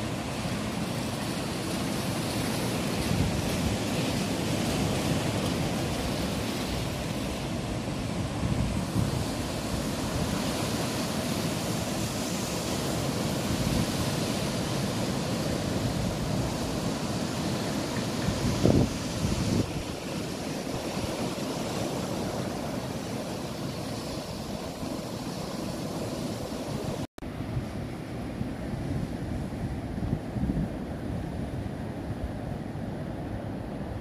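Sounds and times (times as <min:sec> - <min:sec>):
ocean surf rushing: 0:00.0 - 0:34.0
wind on microphone: 0:02.8 - 0:34.0.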